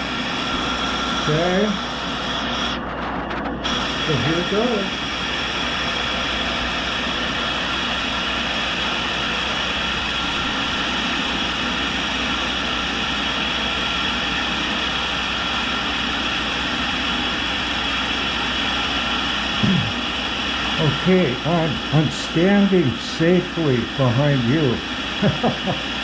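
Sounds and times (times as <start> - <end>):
grinder motor humming: 0.0 - 26.0.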